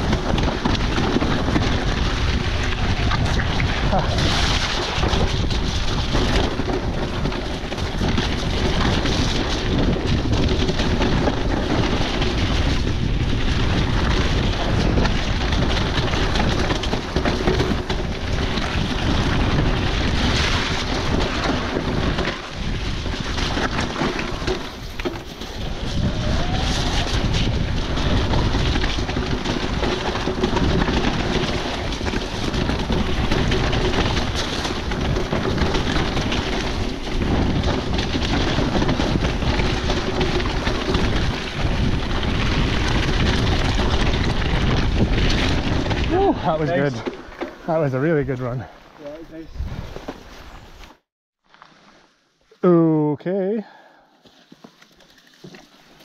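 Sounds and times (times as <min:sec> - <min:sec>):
wind rushing over microphone: 0:00.0 - 0:50.8
bike rattling: 0:00.0 - 0:52.2, 0:52.8 - 0:56.0
bike tyre noise: 0:00.0 - 0:56.0.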